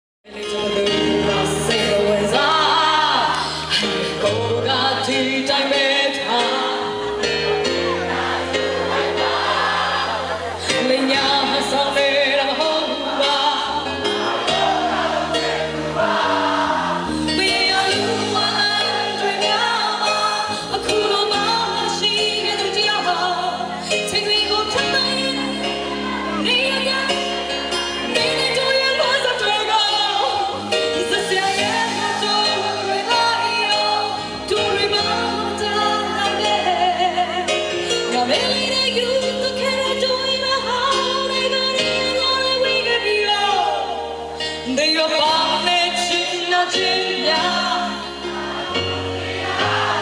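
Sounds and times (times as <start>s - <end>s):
woman singing into microphone: 0.3s - 8.0s, 9.9s - 50.0s
pop band with keyboard and guitar: 0.3s - 50.0s.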